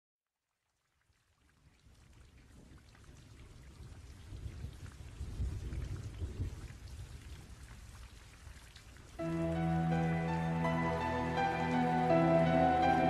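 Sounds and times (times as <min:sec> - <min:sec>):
steady rain: 0:01.3 - 0:13.0.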